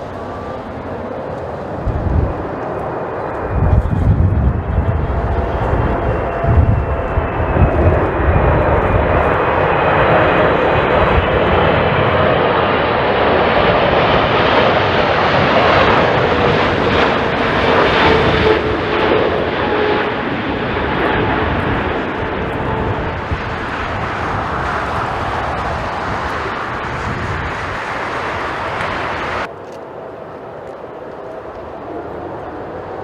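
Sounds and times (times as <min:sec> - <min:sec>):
jet airliner engines running: 0:00.0 - 0:33.0
gusty wind on microphone: 0:01.4 - 0:29.5.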